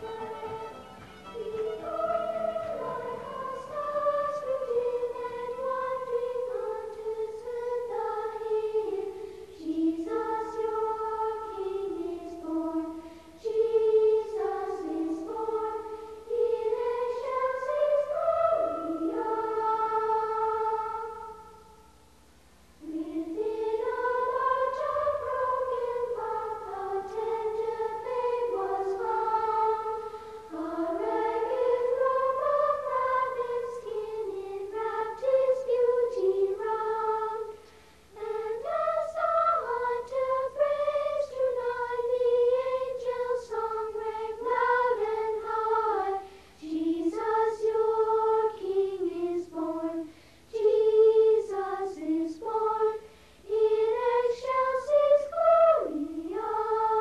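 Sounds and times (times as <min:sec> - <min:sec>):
children singing a carol: 0:00.0 - 0:22.0, 0:22.8 - 0:57.0.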